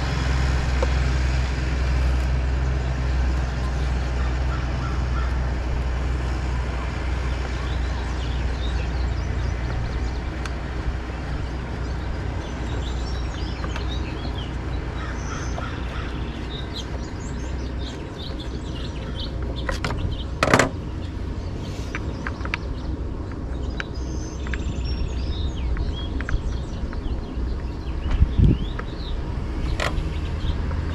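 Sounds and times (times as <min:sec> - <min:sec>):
low rumble: 0:00.0 - 0:30.9
small birds chirping: 0:00.0 - 0:30.9.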